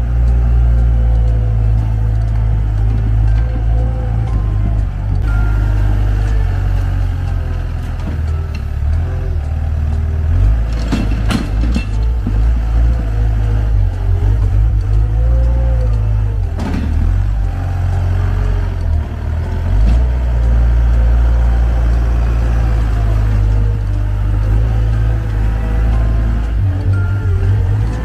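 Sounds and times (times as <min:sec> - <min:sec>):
wheel loader diesel engine: 0:00.0 - 0:28.0.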